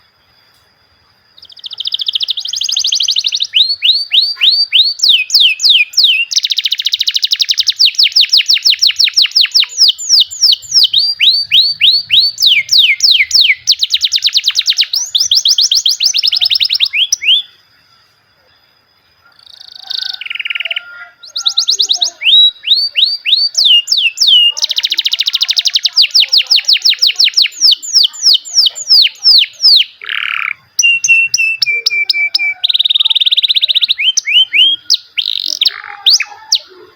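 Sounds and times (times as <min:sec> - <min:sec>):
canary singing trills: 0:00.0 - 0:36.9.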